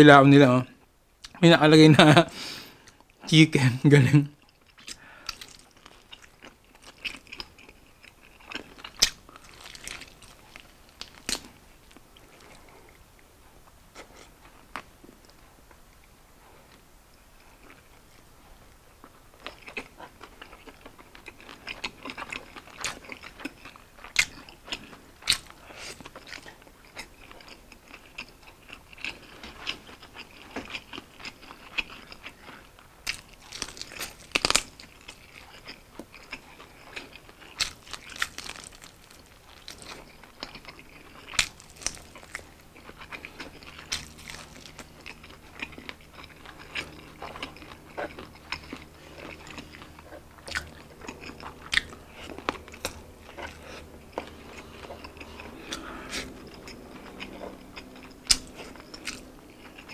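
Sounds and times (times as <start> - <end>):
faint low hum: 0.0 - 59.9
chewing close to microphone: 4.4 - 13.0, 17.4 - 59.9
biting crisp chicken wings: 4.6 - 12.5, 19.4 - 59.9.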